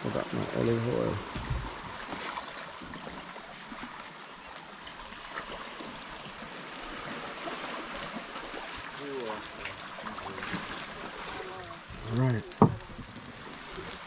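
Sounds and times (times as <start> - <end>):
food frying in oil: 0.0 - 14.0.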